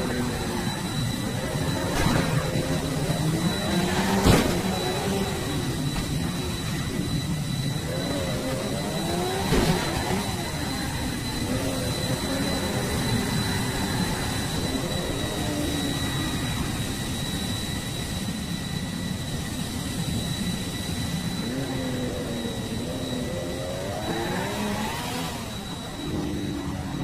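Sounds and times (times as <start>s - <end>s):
toy jet engine whine: 0.0s - 27.0s.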